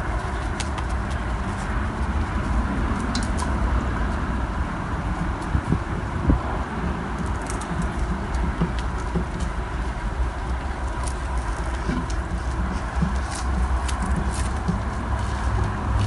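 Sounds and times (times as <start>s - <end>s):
puppy claws pattering on concrete: 0.0s - 4.2s, 7.1s - 16.0s
steady low rumble: 0.0s - 16.0s.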